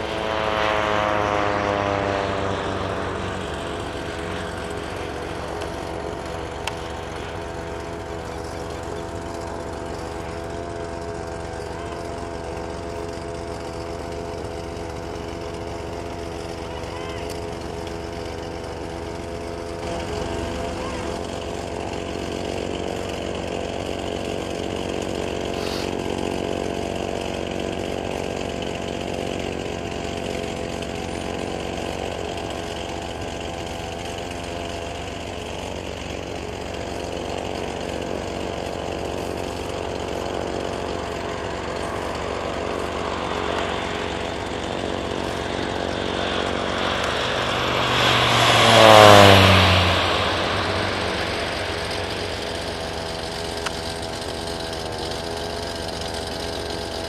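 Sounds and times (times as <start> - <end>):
turboprop plane engine droning: 0.0 - 57.0.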